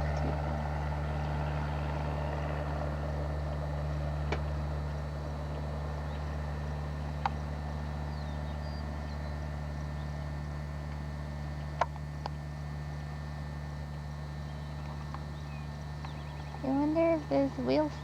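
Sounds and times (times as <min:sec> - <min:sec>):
small airplane engine drone: 0:00.0 - 0:18.0.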